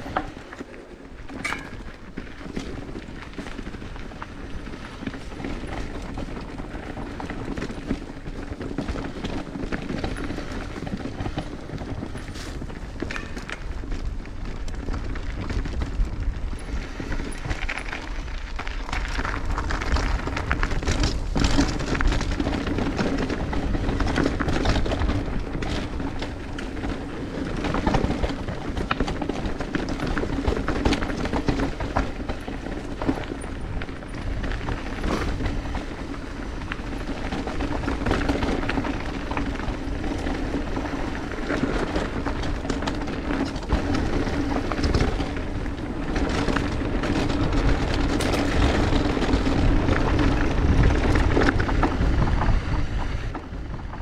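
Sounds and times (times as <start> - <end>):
bike rattling and knocking: 0.0 - 54.0
bike tyres on rough ground: 0.0 - 54.0.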